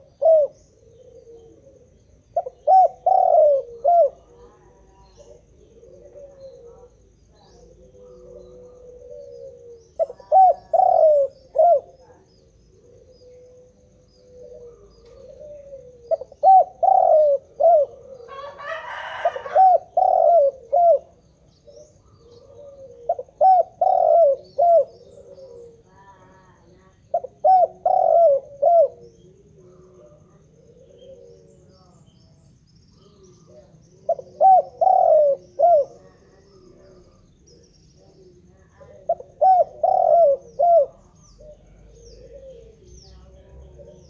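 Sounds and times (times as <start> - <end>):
dove cooing: 0.0 - 44.0.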